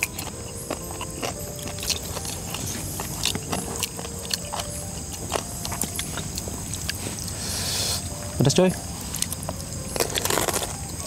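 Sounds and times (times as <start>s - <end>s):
chewing and eating by hand: 0.0s - 11.0s
night insects chorus: 0.0s - 11.0s.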